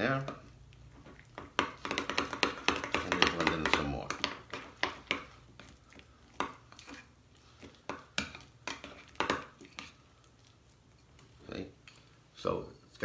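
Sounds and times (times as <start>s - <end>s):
metal spoon stirring thick cream: 0.0s - 13.0s.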